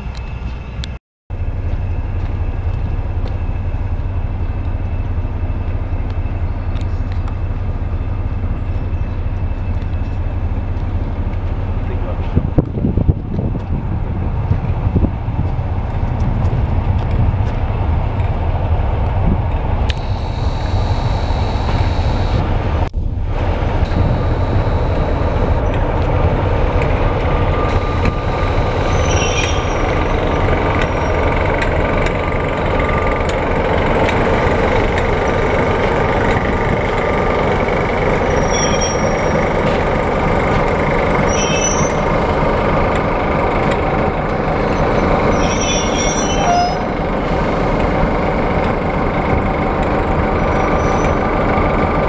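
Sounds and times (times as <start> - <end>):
diesel locomotive running: 0.0 - 52.0.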